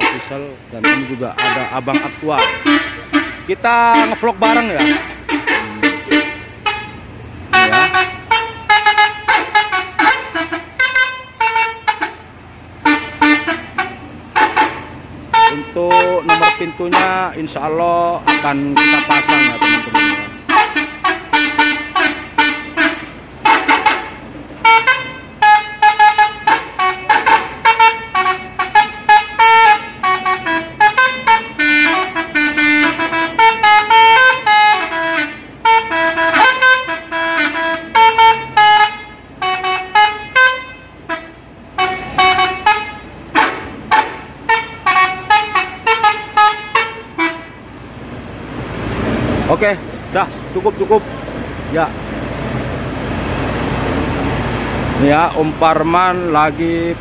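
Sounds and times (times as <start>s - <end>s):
musical bus horn toots: 0.0s - 48.1s.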